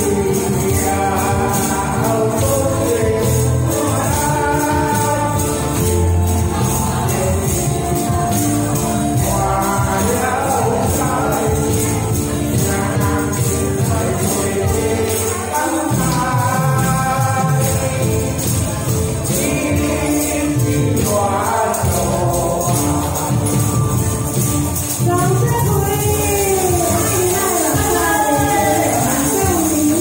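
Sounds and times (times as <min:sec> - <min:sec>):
backing music: 0:00.0 - 0:30.0
man singing into a microphone: 0:00.0 - 0:30.0
tambourines shaken: 0:00.0 - 0:30.0.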